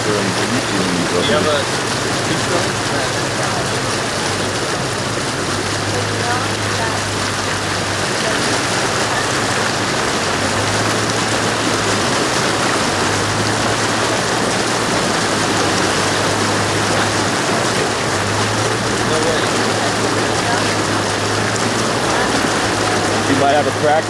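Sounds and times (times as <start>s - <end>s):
water rushing: 0.0s - 24.0s.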